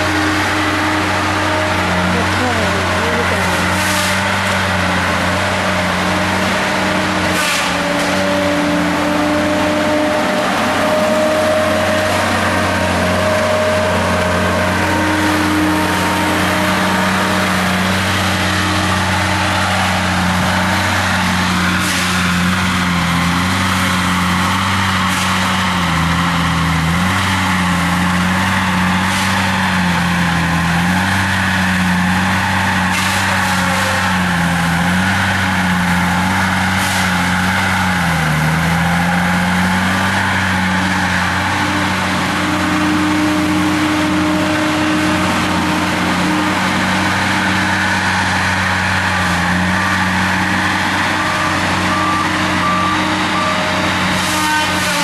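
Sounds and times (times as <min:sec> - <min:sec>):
machinery engine running: 0:00.0 - 0:55.0.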